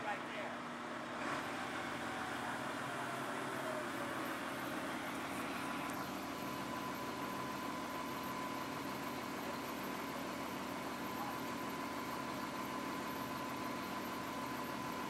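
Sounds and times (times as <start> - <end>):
crane engine running: 0.0 - 15.0
thin steady whine: 0.0 - 15.0.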